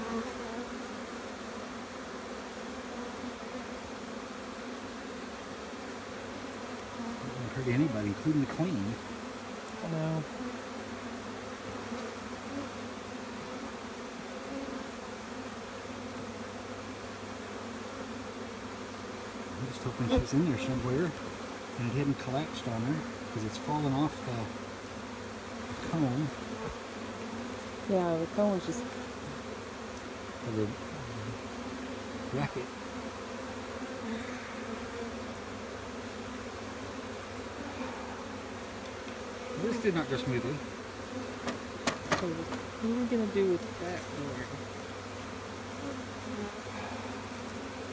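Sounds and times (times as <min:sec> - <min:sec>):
bees buzzing: 0:00.0 - 0:47.9.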